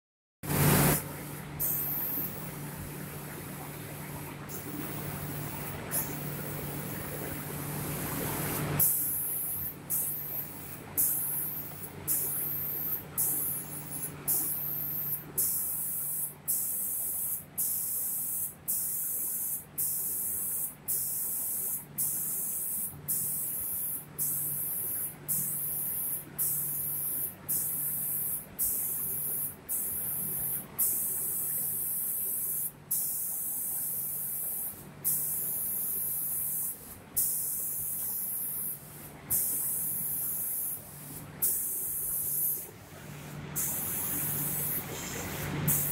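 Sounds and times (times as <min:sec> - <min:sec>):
spray guns hissing in bursts: 0:00.5 - 0:02.7, 0:03.4 - 0:45.9
low steady hum: 0:00.5 - 0:45.9.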